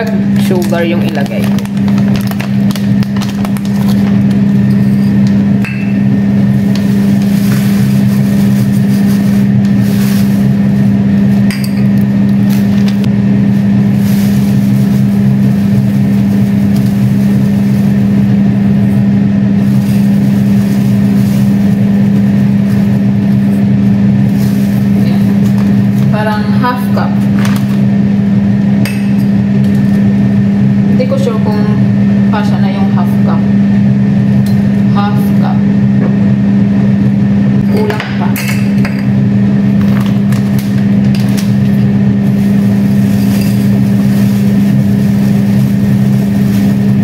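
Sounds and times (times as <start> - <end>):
low motor hum: 0.0 - 47.0.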